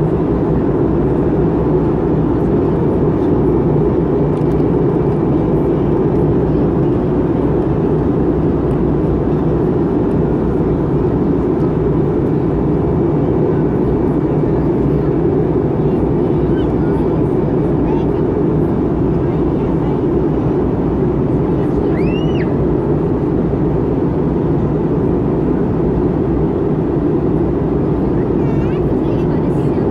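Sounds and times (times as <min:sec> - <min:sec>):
airplane cabin engine drone: 0:00.0 - 0:29.9.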